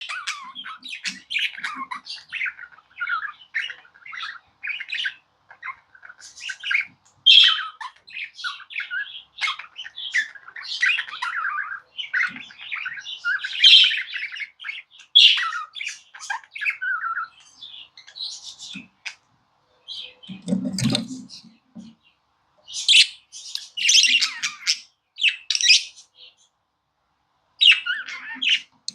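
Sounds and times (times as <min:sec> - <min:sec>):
budgerigar chirping and squawking: 0:00.0 - 0:19.2, 0:19.8 - 0:21.6, 0:22.6 - 0:26.4, 0:27.6 - 0:28.9.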